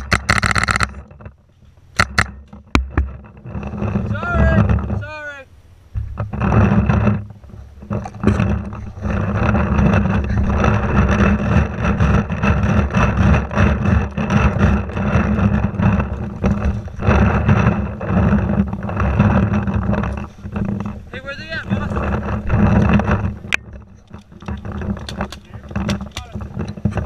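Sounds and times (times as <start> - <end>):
gear jostling: 0.0 - 5.3, 6.0 - 27.0
microphone handling noise: 0.0 - 27.0
wind on microphone: 2.0 - 27.0.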